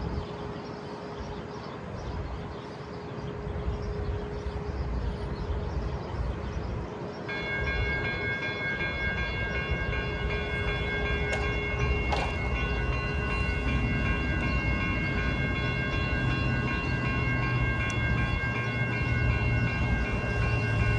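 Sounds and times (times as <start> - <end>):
freight train locomotives rumbling: 0.0 - 20.9
steady chord of high tones: 0.0 - 20.9.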